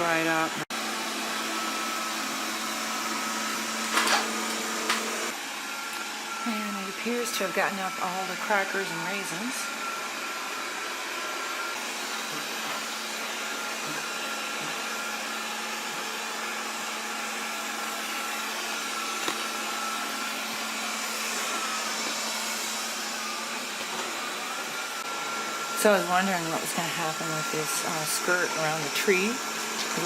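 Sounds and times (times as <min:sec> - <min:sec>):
robot vacuum running: 0:00.0 - 0:30.0.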